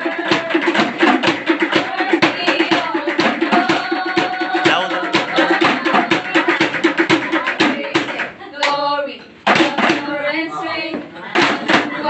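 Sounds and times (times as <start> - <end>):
percussion struck in fast rhythm: 0.0 - 8.8, 9.4 - 12.0
group singing: 0.0 - 12.0.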